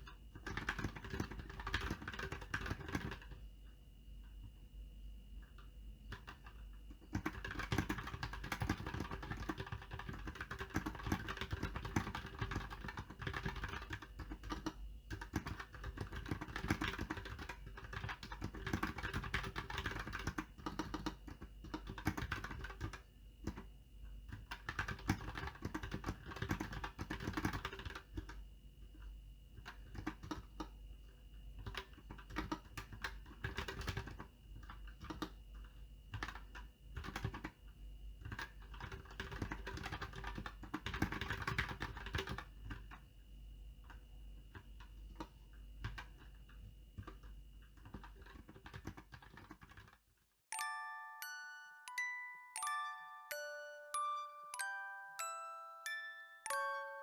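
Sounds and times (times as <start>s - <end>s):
fast mechanical keyboard typing: 0.0s - 3.4s, 6.1s - 23.7s, 24.3s - 43.1s, 43.8s - 50.1s.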